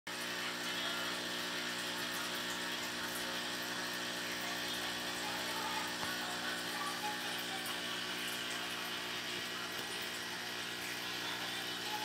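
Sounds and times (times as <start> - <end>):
aquarium pump hum: 0.1 - 12.0.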